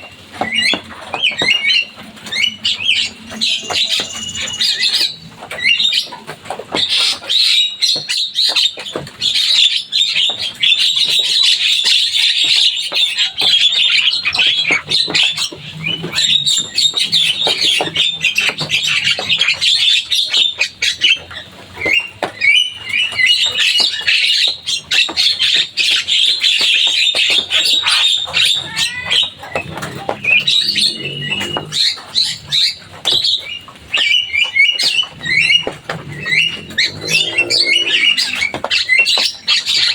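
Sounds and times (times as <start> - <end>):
bird chattering and squawking: 0.5 - 39.9.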